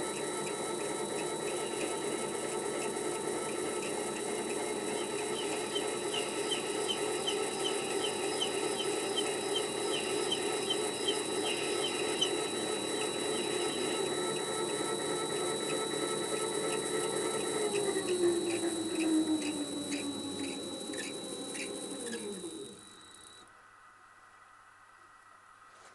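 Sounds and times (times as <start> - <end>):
lathe running with whine: 0.0 - 23.5.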